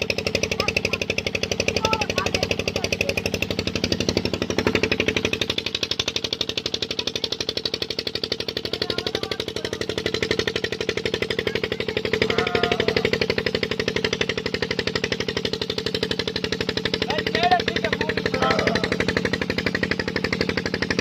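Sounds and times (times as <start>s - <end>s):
pump engine running: 0.0s - 21.0s.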